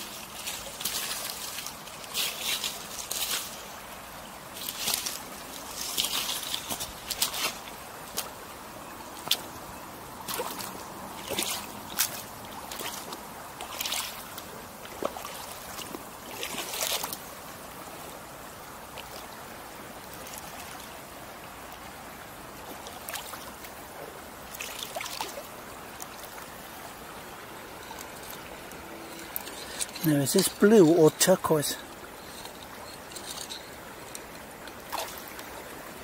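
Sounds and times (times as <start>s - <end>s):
river rushing over gravel: 0.0s - 36.0s.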